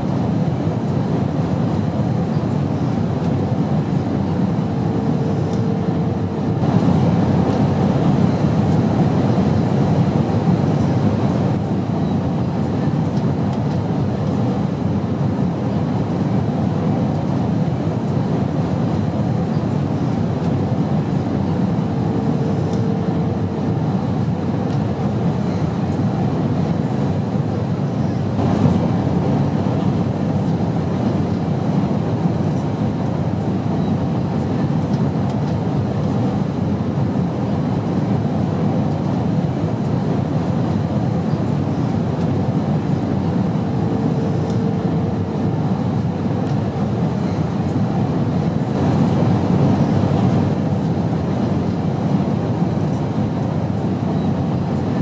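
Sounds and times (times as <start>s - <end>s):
airplane low rumble: 0.0s - 55.0s.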